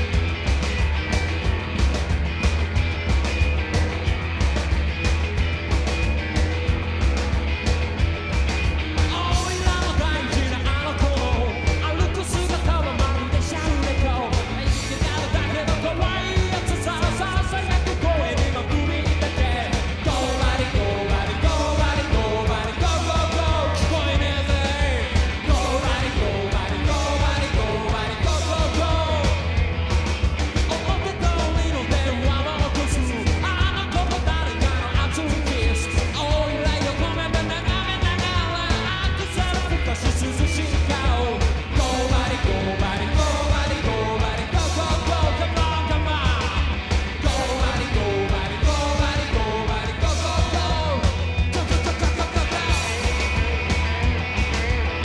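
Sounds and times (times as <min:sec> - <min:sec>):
rockabilly band playing: 0:00.0 - 0:55.0
shouted vocals: 0:08.8 - 0:55.0.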